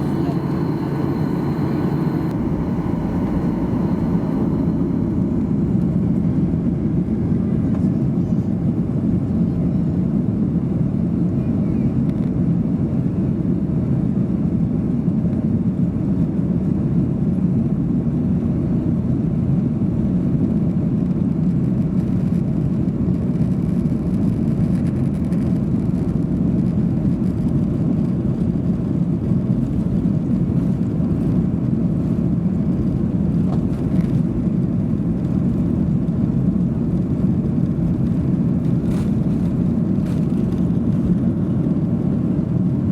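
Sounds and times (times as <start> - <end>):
airplane cabin engine rumble: 0.0 - 42.9.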